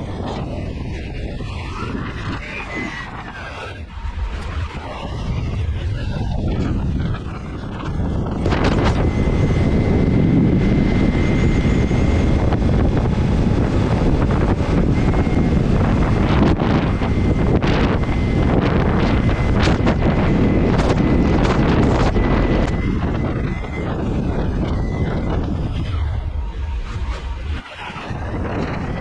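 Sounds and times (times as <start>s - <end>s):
faint high whine: 0.0s - 29.0s
motorcycle rumble: 0.0s - 29.0s
wind rush on microphone: 0.0s - 29.0s.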